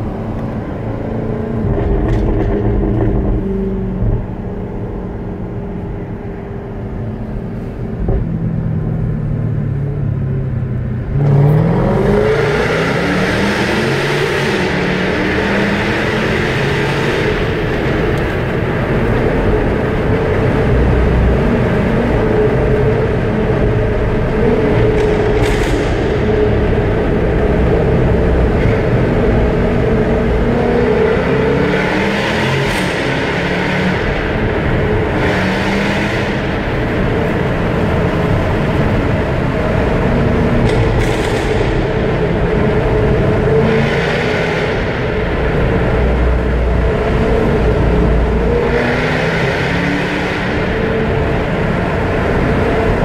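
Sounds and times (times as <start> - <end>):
car engine and exhaust: 0.0 - 53.0.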